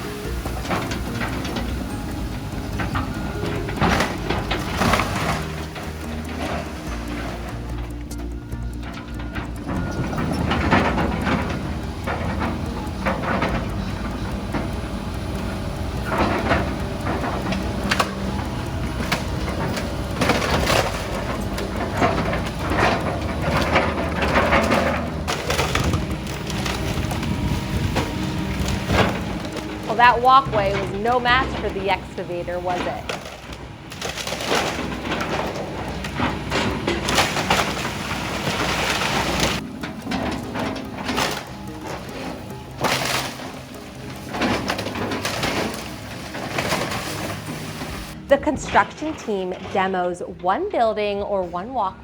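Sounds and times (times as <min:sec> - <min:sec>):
roofing debris crashing and scraping: 0:00.0 - 0:51.9
excavator engine running: 0:00.0 - 0:52.0.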